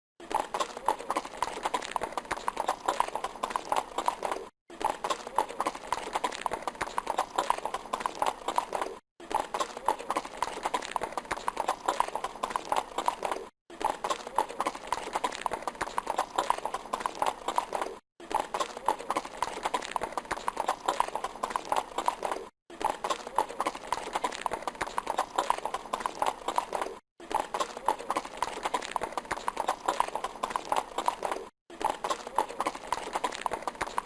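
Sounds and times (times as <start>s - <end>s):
horse hooves clip-clopping: 0.3s - 34.0s.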